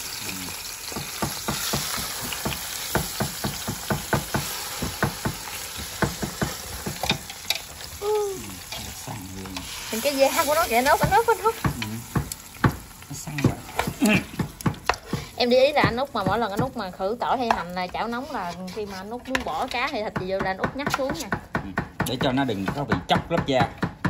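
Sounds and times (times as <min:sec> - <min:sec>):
fish sizzling in a frying pan: 0:00.0 - 0:21.3.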